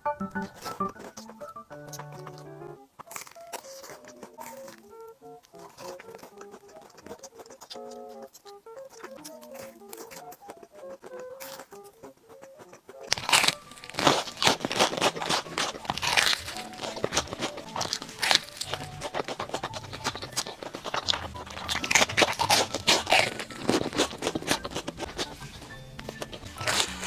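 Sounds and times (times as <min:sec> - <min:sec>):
background music: 0:00.0 - 0:27.0
crunching of fried food being chewed: 0:00.3 - 0:27.0.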